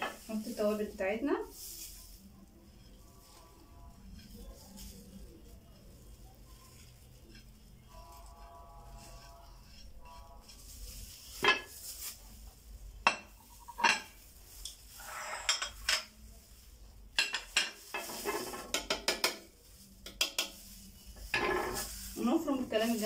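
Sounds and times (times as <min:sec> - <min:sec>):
ingredients being scraped: 0:00.0 - 0:23.0.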